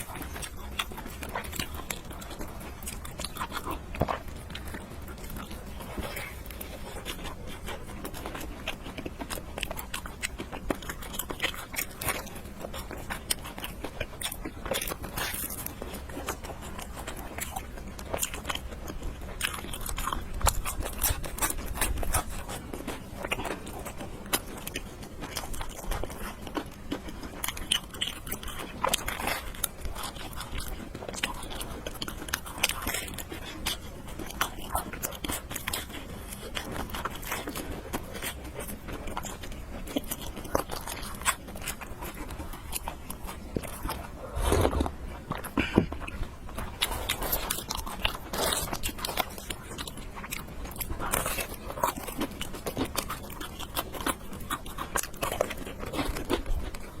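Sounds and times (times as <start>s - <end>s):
noodles slurped and chewed: 0.0s - 57.0s.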